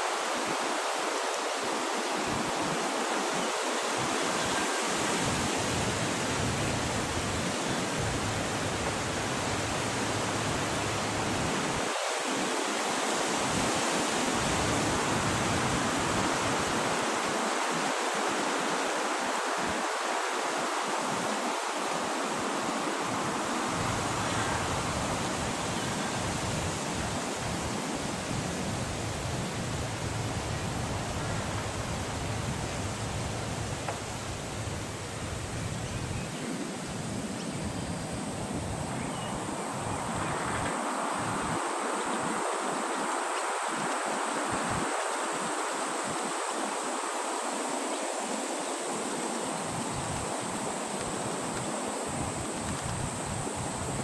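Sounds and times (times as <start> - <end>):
steady wind hiss: 0.0 - 54.0.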